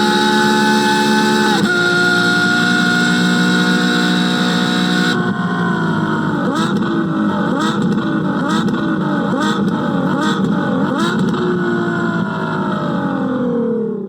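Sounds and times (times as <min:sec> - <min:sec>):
car engine revving in blips: 0:00.0 - 0:14.0.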